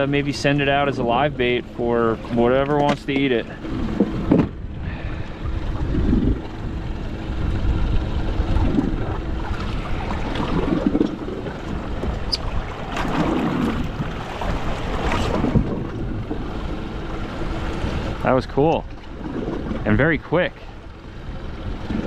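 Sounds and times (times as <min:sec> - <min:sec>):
wind buffeting microphone: 0:00.0 - 0:20.2
low steady hum: 0:00.0 - 0:22.0
waves sloshing against hull: 0:00.0 - 0:22.0.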